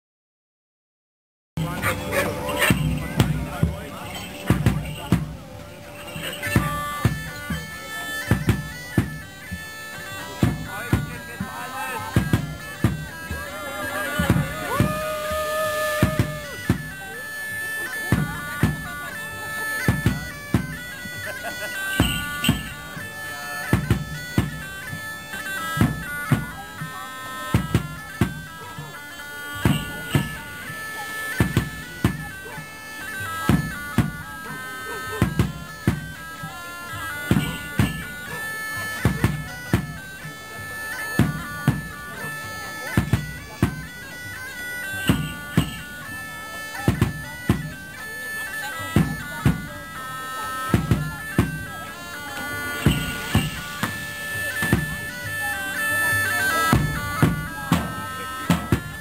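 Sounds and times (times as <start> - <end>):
drum beating: 1.6 - 44.2, 44.9 - 46.3, 46.9 - 48.2, 49.0 - 59.0
bagpipes playing: 1.6 - 59.0.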